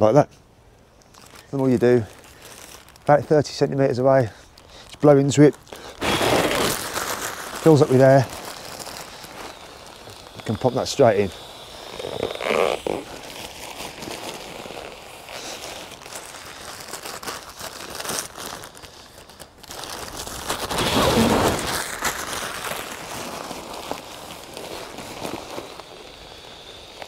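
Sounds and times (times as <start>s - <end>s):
nylon fabric crinkling: 1.0s - 27.0s.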